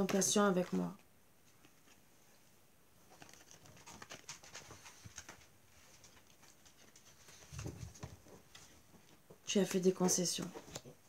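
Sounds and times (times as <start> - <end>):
paper cards rustling and tapping: 0.0 - 2.0, 3.1 - 11.0.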